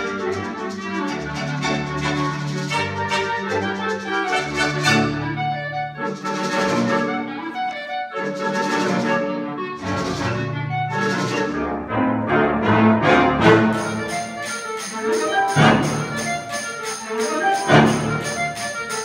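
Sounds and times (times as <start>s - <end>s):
concert band with clarinet solo: 0.0s - 19.0s.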